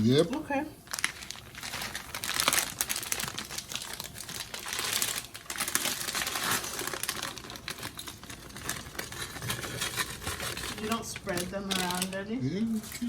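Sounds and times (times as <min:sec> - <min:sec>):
plastic package crinkling: 0:00.0 - 0:13.0.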